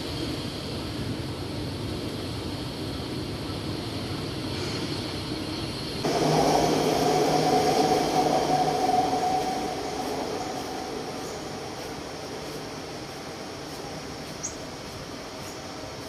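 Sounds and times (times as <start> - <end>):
escalator mechanical hum: 0.0 - 16.0
metro train electric whine: 0.0 - 16.0
train running rumble: 0.0 - 16.0.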